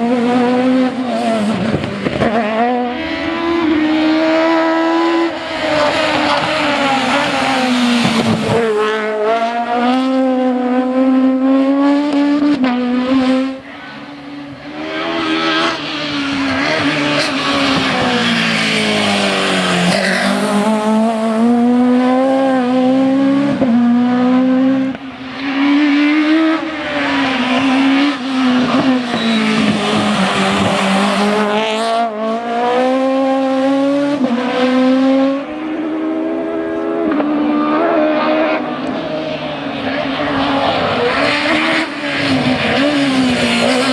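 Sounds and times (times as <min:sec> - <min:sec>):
rally car engine revving: 0:00.0 - 0:43.9.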